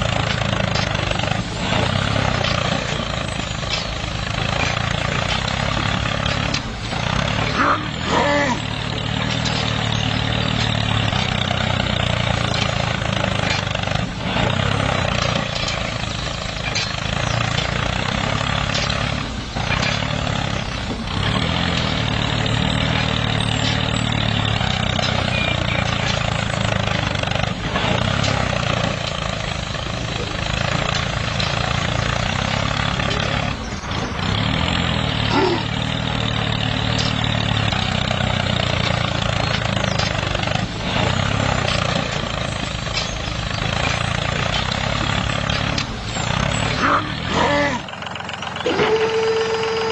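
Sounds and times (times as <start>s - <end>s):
engine running: 0.0s - 49.9s.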